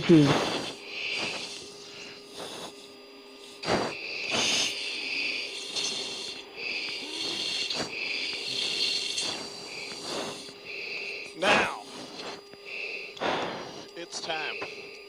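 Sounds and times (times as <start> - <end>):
hissing breaths through oxygen mask: 0.0 - 15.0
intercom hum: 0.0 - 15.0.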